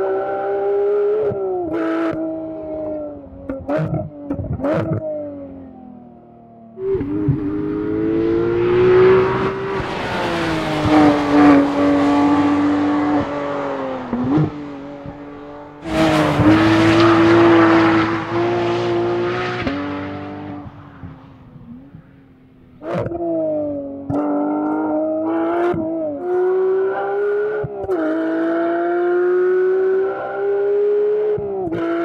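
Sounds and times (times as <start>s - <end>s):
race car engine at high revs: 0.0s - 5.9s, 6.7s - 32.0s.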